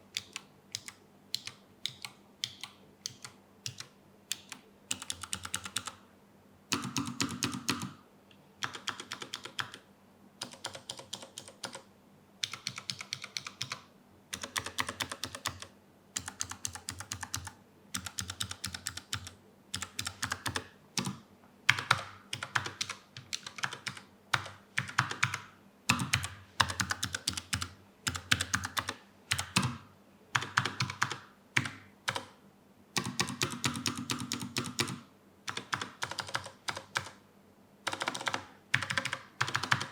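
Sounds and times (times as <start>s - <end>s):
mechanical keyboard typing: 0.2s - 6.0s, 6.7s - 8.0s, 8.6s - 9.8s, 10.4s - 29.8s, 30.4s - 32.4s, 33.0s - 37.2s, 37.8s - 39.9s.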